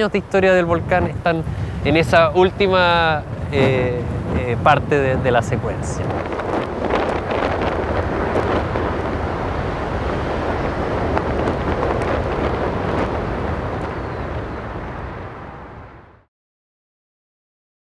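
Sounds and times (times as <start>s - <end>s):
wind noise on microphone: 0.0s - 16.3s.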